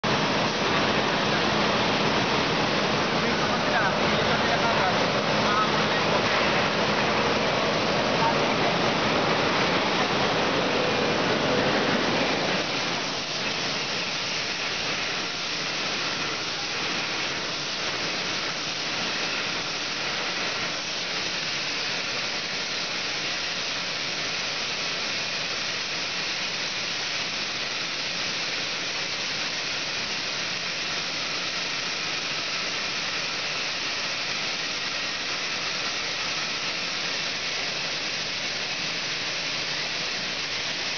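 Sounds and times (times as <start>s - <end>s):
rushing hiss of water filling bottles: 0.0s - 40.9s.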